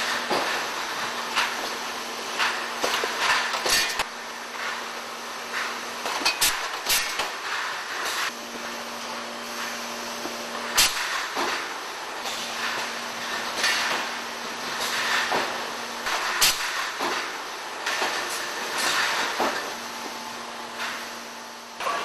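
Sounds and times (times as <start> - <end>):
machine hum and clatter: 0.0 - 22.0.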